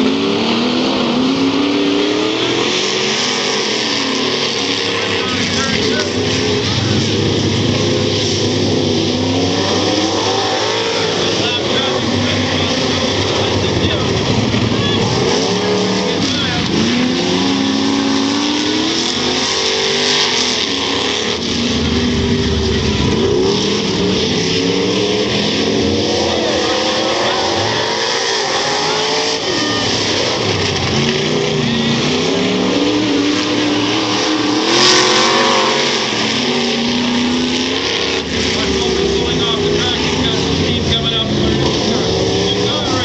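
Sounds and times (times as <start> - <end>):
stock car engines racing: 0.0 - 43.0.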